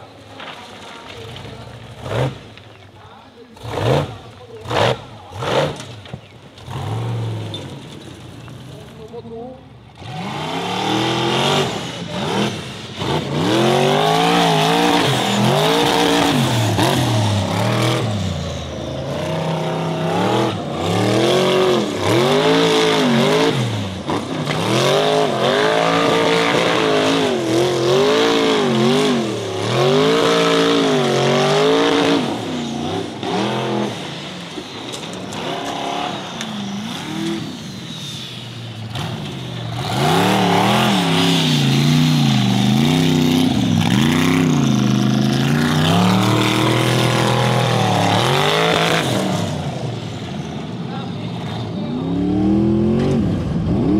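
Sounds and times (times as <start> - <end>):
buggy engine revving: 0.0 - 53.9.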